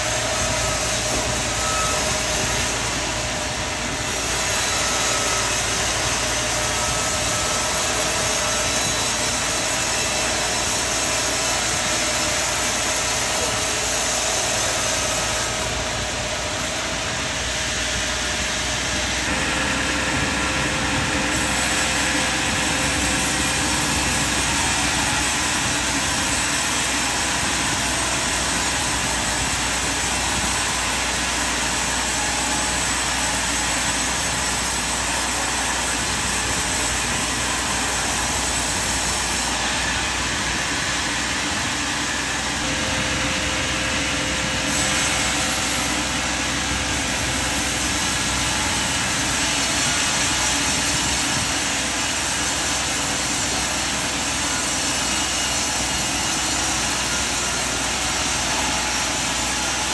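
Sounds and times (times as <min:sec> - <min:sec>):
sawmill machinery sawing timber: 0:00.0 - 0:59.9.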